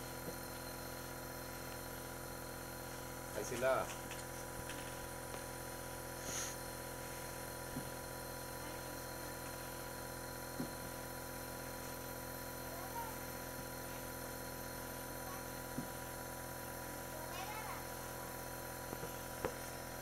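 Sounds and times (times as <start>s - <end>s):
oxygen concentrator humming: 0.0s - 20.0s.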